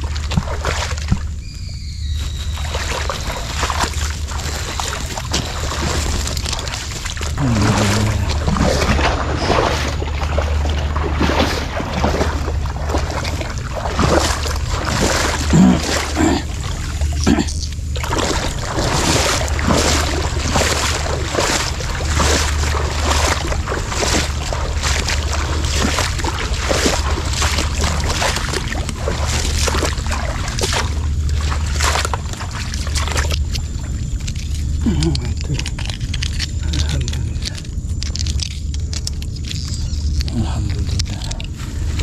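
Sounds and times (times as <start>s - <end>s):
water splashing and sloshing: 0.0s - 42.0s.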